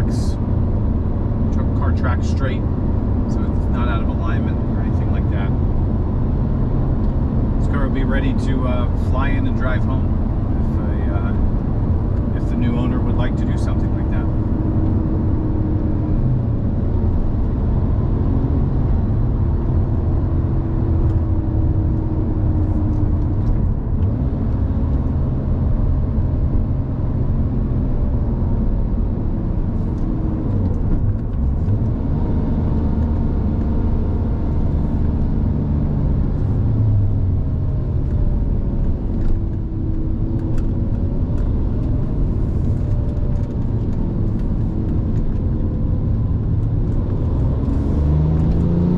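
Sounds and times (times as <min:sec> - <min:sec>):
car engine running: 0:00.0 - 0:48.9
tyre and road noise: 0:00.0 - 0:48.9.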